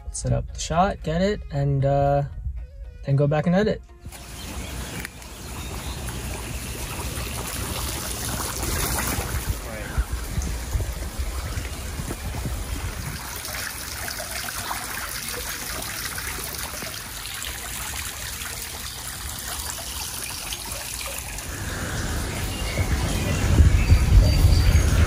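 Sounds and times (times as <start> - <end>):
running water splashing: 4.1 - 25.0.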